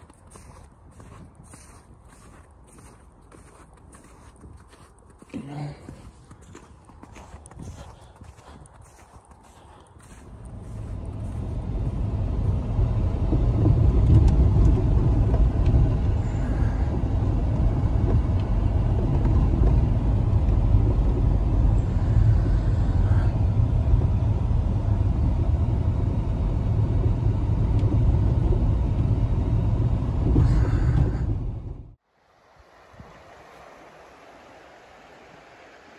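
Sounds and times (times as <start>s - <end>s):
car driving on snowy road: 0.0s - 32.0s.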